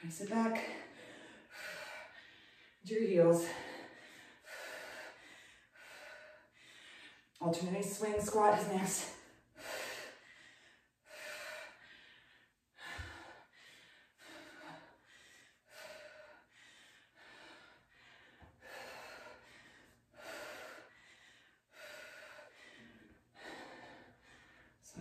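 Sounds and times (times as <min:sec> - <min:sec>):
woman breathing hard: 0:00.6 - 0:02.8, 0:03.4 - 0:07.4, 0:09.0 - 0:25.0.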